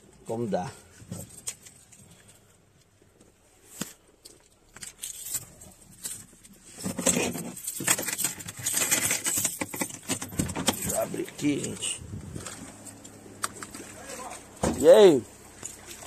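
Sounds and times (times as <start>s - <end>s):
rustling and clattering: 0.8s - 14.8s.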